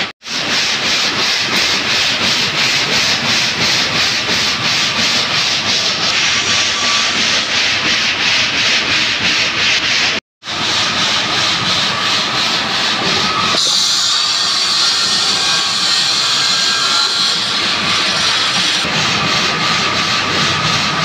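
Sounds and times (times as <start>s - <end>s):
stone-cutting machinery rasping: 0.4s - 21.0s.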